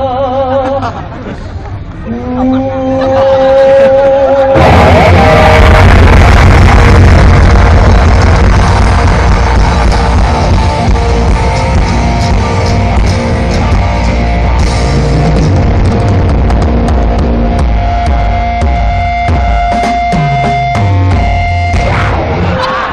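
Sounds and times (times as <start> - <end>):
grindcore band playing live: 2.5 - 22.9.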